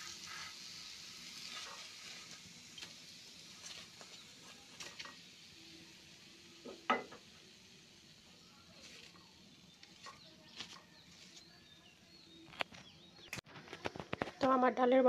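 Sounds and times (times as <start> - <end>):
frying oil hissing: 0.0 - 13.1.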